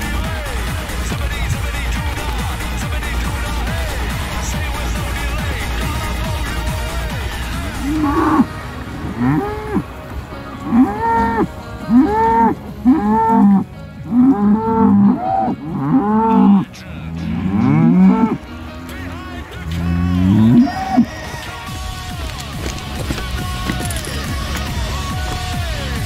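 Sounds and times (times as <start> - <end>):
cows mooing: 0.0 - 21.8.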